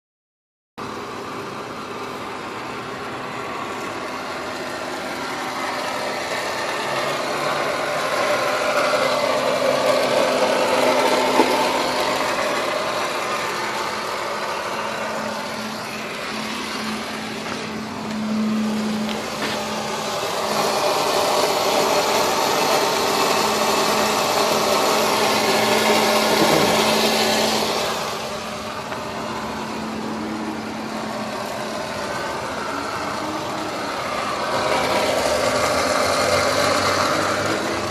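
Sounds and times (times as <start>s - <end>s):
blower motor whirring hum: 0.8s - 37.9s.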